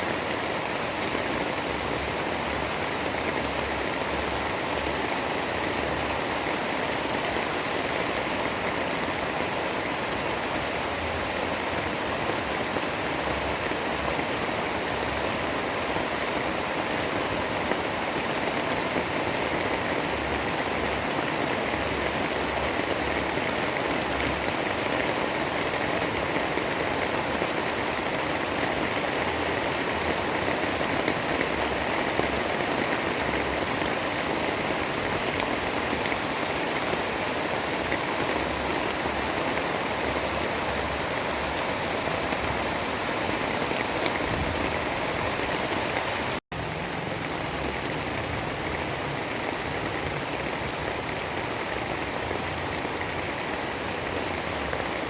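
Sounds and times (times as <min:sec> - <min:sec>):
steady rain-like storm noise: 0:00.0 - 0:55.0.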